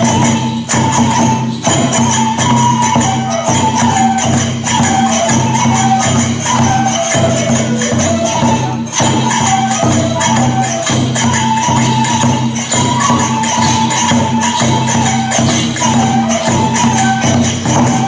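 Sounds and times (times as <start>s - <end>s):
drum strokes: 0.0s - 18.0s
flute-like melody: 0.0s - 18.0s
jingling hand cymbals: 0.0s - 18.0s.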